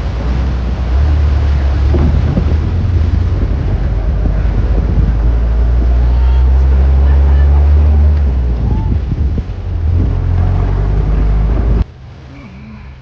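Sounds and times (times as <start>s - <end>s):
jeep engine droning: 0.0s - 12.3s
wind buffeting microphone: 0.0s - 12.3s.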